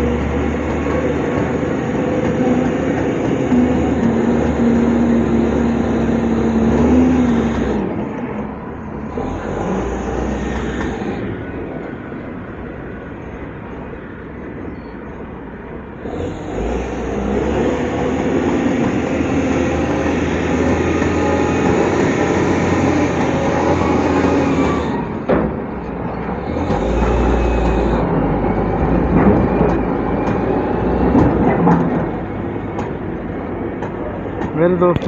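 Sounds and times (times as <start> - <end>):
heavy machine diesel engine: 0.0 - 35.0
steady engine whine: 0.0 - 35.0.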